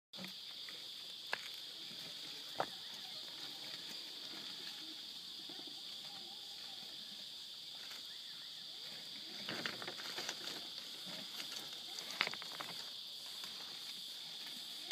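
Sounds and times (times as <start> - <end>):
insects droning: 0.2 - 14.9.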